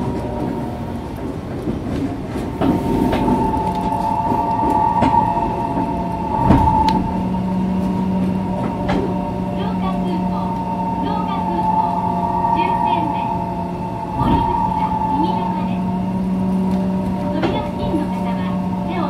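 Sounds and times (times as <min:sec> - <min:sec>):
train equipment hum and whine: 0:00.0 - 0:19.0.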